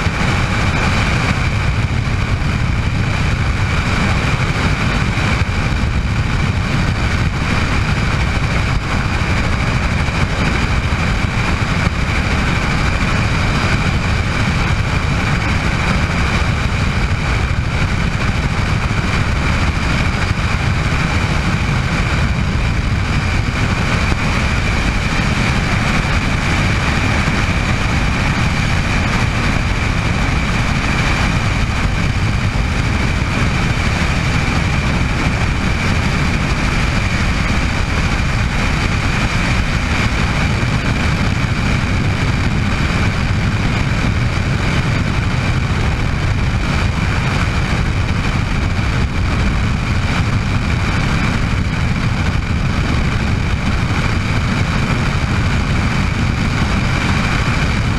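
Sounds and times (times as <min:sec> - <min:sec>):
helicopter engine and rotors: 0:00.0 - 0:57.9.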